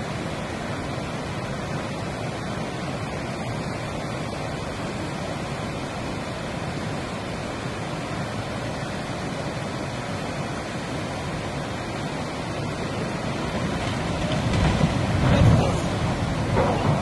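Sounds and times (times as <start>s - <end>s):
river rushing through weir: 0.0s - 17.0s.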